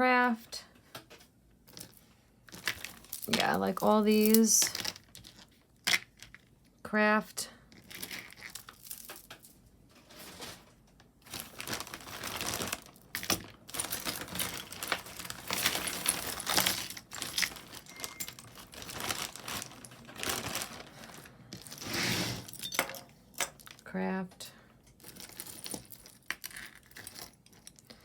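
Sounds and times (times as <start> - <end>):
crinkling rustles: 1.1 - 6.5, 7.7 - 23.9, 24.9 - 28.0
beads and metal clinking: 1.7 - 6.4, 7.7 - 10.7, 11.3 - 23.8, 24.8 - 28.0.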